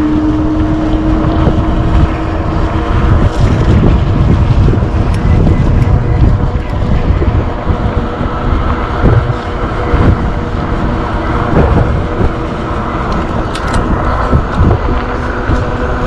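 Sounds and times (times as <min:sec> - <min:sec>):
faint steady whine: 0:00.0 - 0:16.0
road rumble: 0:00.0 - 0:16.0.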